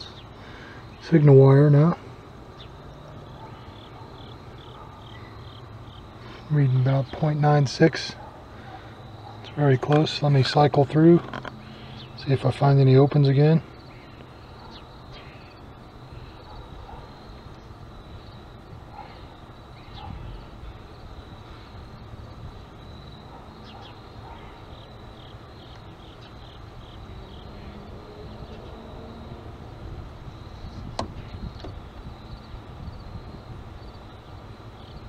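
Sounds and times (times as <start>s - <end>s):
high insect-like whine: 0.0s - 8.2s, 8.9s - 35.0s.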